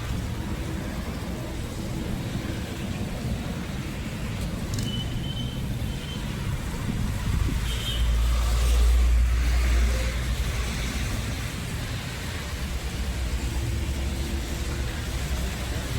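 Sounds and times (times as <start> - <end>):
road traffic rumble: 0.0 - 15.9.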